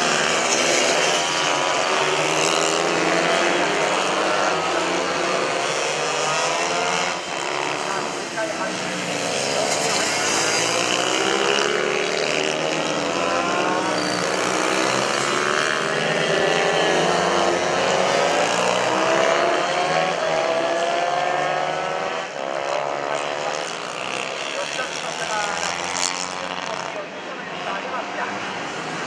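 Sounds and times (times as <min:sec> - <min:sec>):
mini-bike engines revving: 0:00.0 - 0:29.0.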